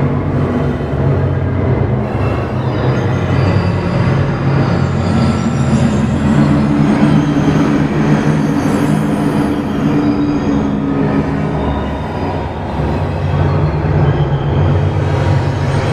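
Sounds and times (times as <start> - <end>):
electronic rumble with low drones: 0.0 - 15.9.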